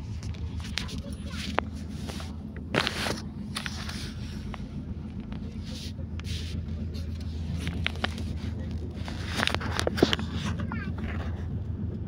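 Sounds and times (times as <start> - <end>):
train rumble from inside coach: 0.0 - 12.0
light clicks and rattles: 0.1 - 11.6.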